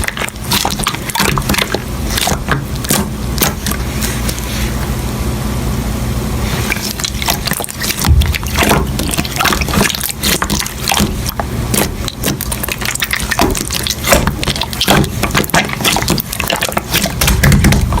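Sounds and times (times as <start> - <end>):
slime squished by hand: 0.0 - 4.8, 6.4 - 18.0.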